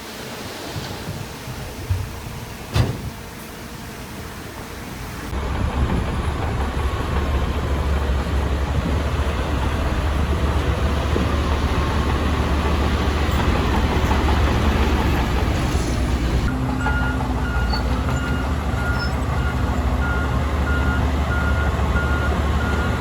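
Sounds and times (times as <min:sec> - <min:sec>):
heavy diesel machinery droning: 0:00.4 - 0:23.0.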